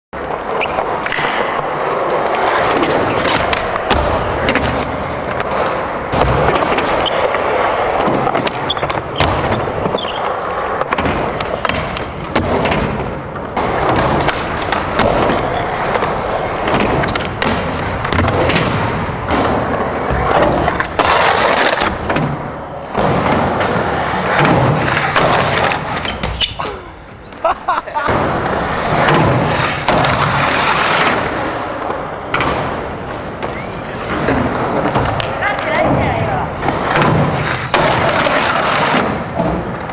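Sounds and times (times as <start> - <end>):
skateboard wheels rumbling on concrete: 0.2 - 39.9
skateboards clacking on ramps: 0.2 - 39.9.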